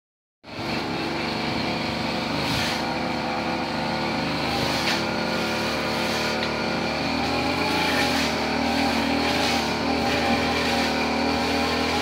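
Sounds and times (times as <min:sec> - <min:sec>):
lawn mower engine running: 0:00.5 - 0:12.0.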